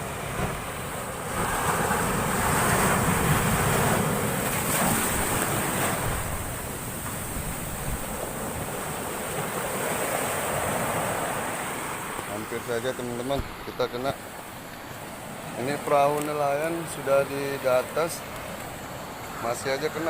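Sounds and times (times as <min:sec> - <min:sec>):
storm waves crashing on shore: 0:00.0 - 0:20.0.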